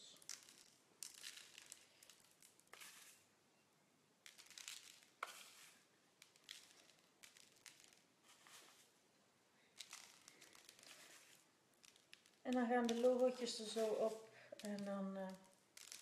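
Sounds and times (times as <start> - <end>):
sprinkles rattling in tub: 0.0 - 3.2, 4.2 - 8.9, 9.7 - 16.0.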